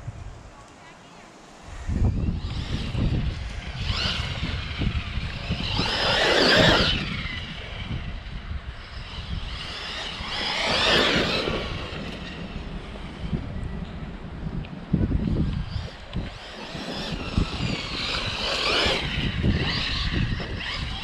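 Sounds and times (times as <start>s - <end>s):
electric motor whining: 1.9s - 14.3s, 14.9s - 21.0s.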